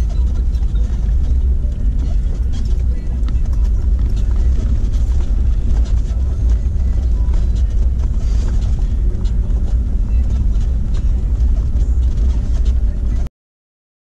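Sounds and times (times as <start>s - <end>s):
vehicle rumbling on gravel road: 0.0s - 13.3s.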